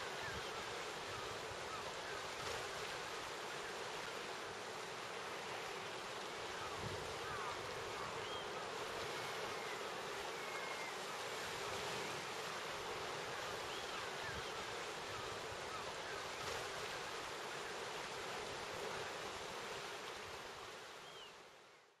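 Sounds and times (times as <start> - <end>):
sea and surf: 0.0 - 22.0.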